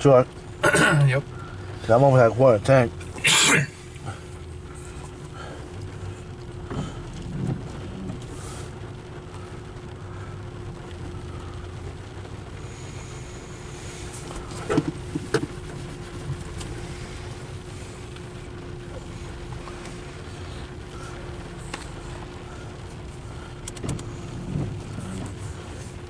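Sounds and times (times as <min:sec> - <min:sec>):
constant hum: 0:00.0 - 0:26.0
truck cab road rumble: 0:00.0 - 0:26.0.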